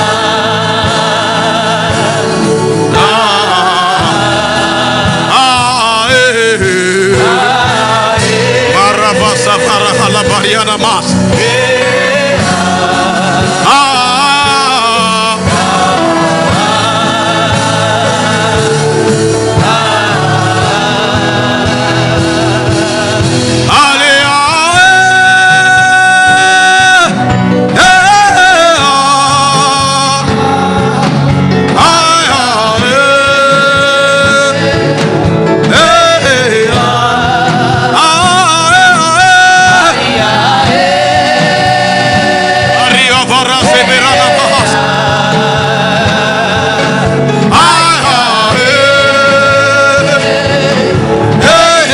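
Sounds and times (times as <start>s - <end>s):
sustained accompaniment: 0.0s - 51.9s.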